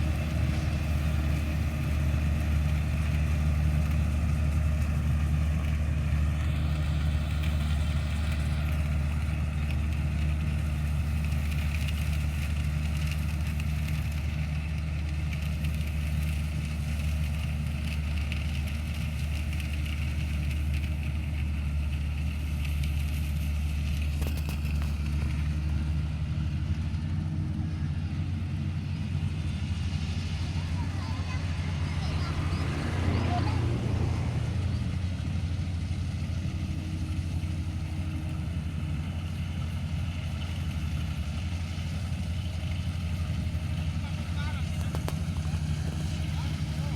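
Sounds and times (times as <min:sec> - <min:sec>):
harvester engine droning: 0:00.0 - 0:46.9.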